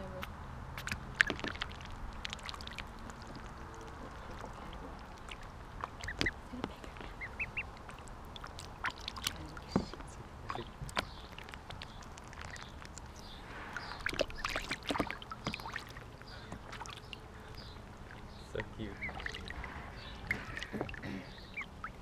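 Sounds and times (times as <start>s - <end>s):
ducklings splashing in water: 0.0s - 22.0s
duckling peeps: 0.2s - 22.0s.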